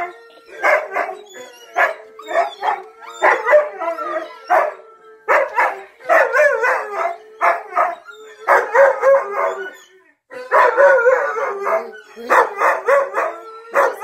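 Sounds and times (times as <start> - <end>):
husky howling and barking: 0.0 - 14.0.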